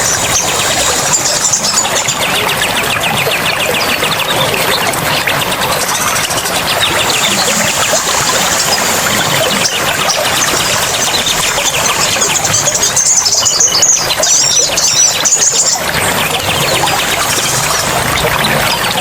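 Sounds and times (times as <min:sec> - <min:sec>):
running water: 0:00.0 - 0:19.0
small birds chirping: 0:00.0 - 0:19.0.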